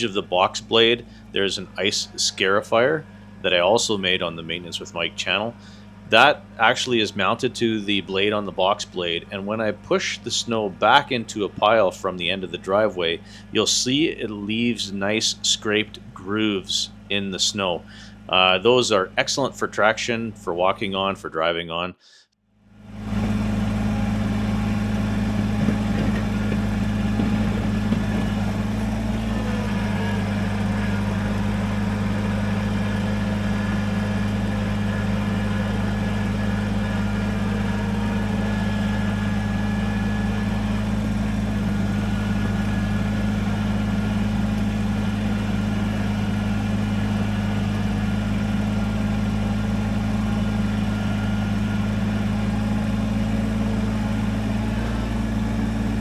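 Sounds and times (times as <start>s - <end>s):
tractor diesel engine running: 0.0s - 21.5s, 22.6s - 56.0s.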